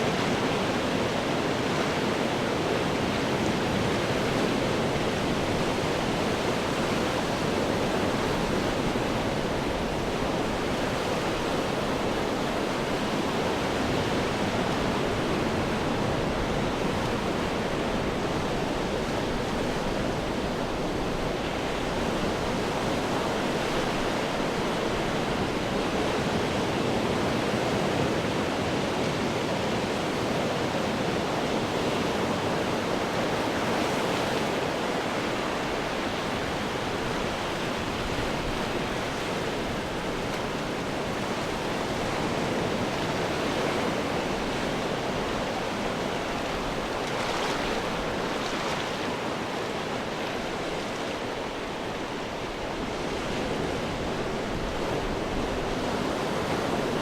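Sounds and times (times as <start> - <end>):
surf washing against rocks: 0.0 - 57.0.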